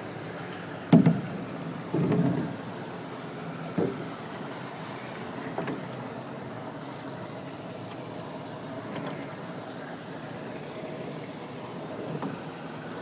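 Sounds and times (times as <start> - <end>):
rushing floodwater current: 0.0 - 13.0.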